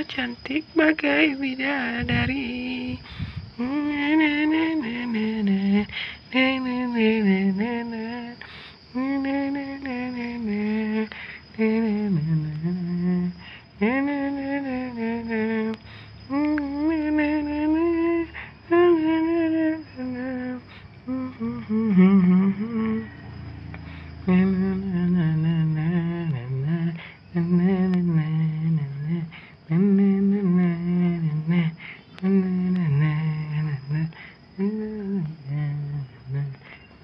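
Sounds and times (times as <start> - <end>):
person humming a slow tune: 0.0 - 37.0.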